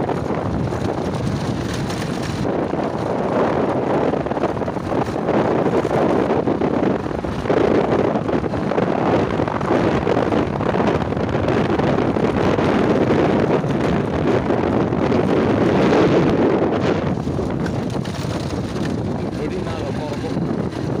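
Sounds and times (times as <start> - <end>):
vehicle running on dirt road: 0.0 - 21.0
wind buffeting microphone: 0.0 - 21.0.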